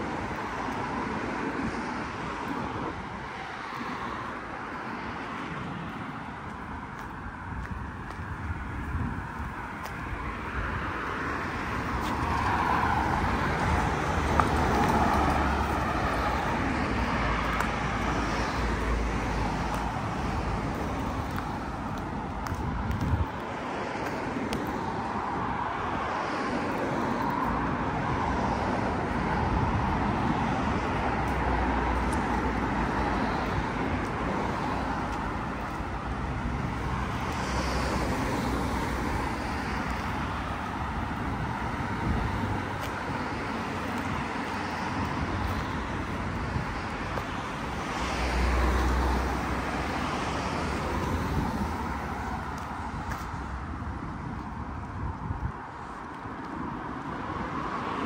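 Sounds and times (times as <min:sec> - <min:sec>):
road traffic rushing: 0:00.0 - 0:58.0.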